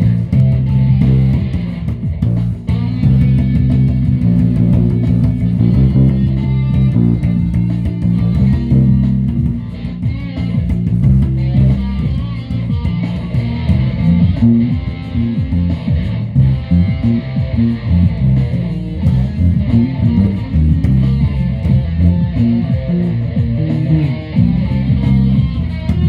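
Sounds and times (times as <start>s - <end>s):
bass line: 0.0s - 26.0s
plucked and strummed guitar: 0.0s - 26.0s.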